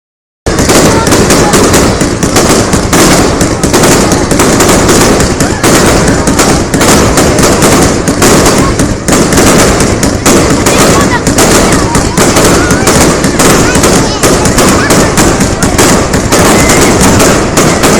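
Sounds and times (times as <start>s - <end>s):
fireworks bursts and crackle: 0.5s - 17.9s.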